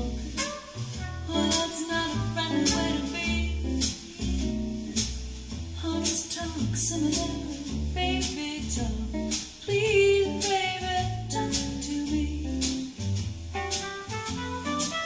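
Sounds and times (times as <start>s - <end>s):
jazzy song with singing and guitar: 0.0s - 15.0s.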